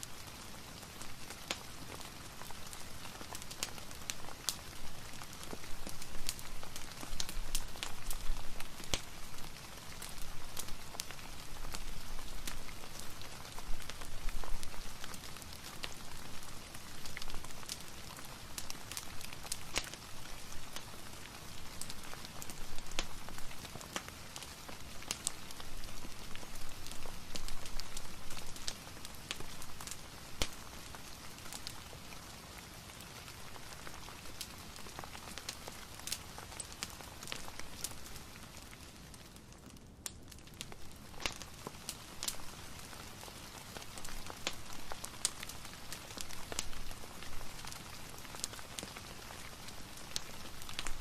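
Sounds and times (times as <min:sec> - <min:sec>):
fire crackling and popping: 0:00.0 - 0:51.0
soft rain falling: 0:00.0 - 0:51.0.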